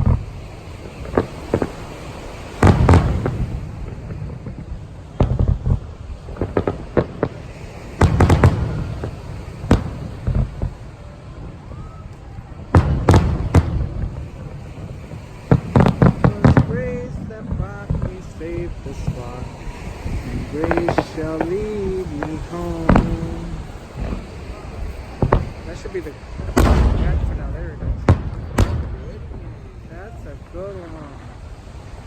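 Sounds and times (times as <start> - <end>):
fireworks booming: 0.0 - 32.0
fireworks crackling: 0.0 - 32.0.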